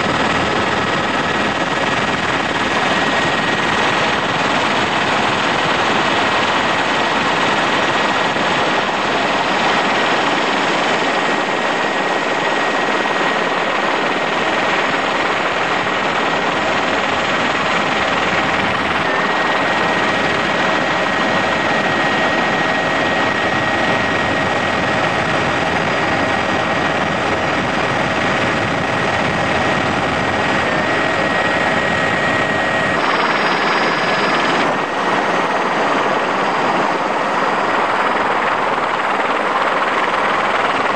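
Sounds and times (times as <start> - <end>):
helicopter engine and rotor rush: 0.0 - 40.9.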